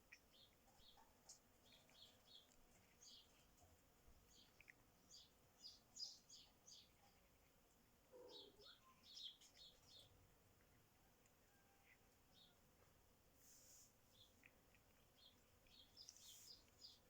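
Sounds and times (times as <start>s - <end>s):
faint birdsong chirps: 0.0s - 17.0s.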